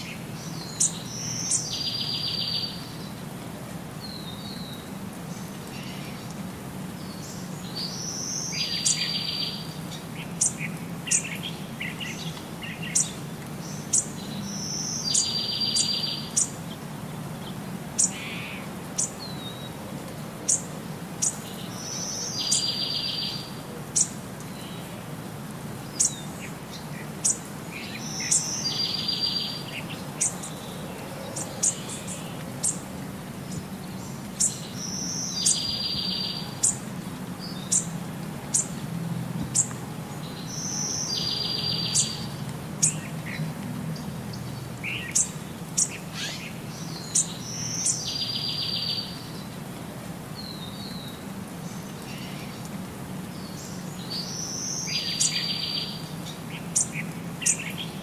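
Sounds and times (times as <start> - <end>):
birds chirping: 0.0 - 3.2, 4.0 - 19.8, 20.5 - 25.0, 25.7 - 38.8, 39.4 - 49.6, 50.3 - 58.0.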